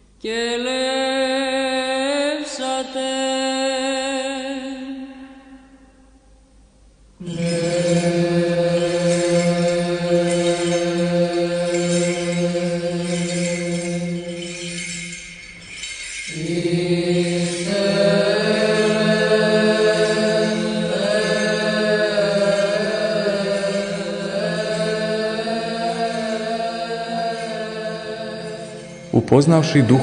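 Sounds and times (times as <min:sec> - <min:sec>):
slow religious chant: 0:00.0 - 0:30.0.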